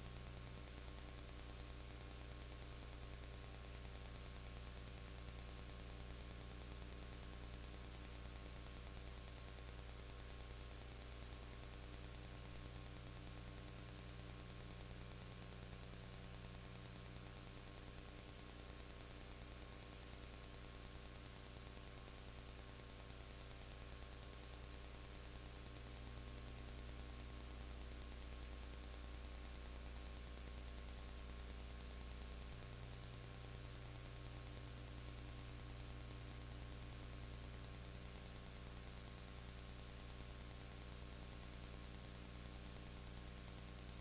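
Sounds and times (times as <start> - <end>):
electrical mains hum: 0.0 - 44.0.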